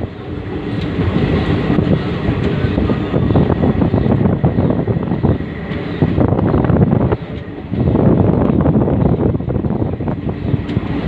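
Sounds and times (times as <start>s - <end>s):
train running across bridge: 0.0s - 11.0s
wind buffeting microphone: 0.0s - 11.0s.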